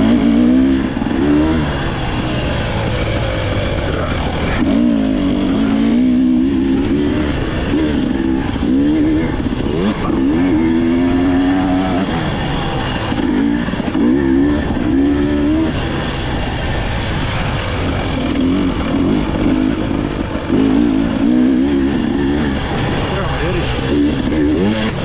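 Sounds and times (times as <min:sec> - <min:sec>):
dirt bike engine revving: 0:00.0 - 0:25.0
steady noisy rush: 0:00.0 - 0:25.0.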